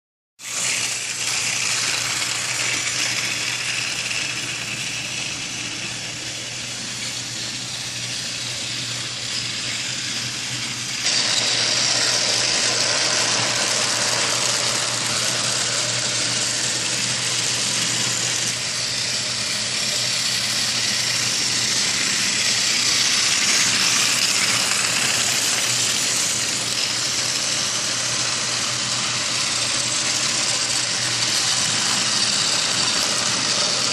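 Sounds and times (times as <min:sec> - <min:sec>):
toy train motor whirring: 0:00.4 - 0:33.9.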